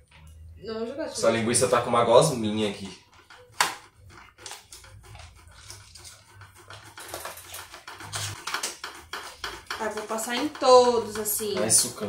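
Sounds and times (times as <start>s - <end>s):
grating on a metal grater: 1.2s - 12.0s.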